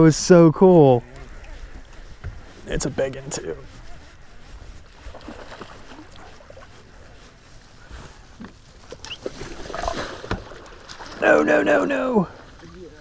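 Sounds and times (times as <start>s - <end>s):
water around boat: 0.0s - 13.0s
wind: 0.0s - 13.0s.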